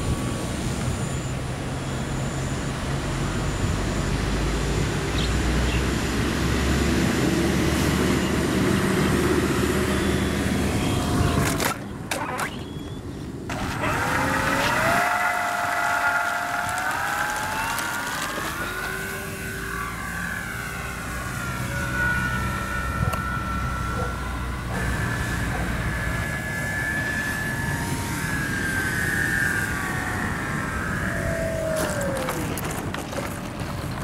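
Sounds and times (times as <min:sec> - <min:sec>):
model plane motor whining: 0:05.4 - 0:34.0.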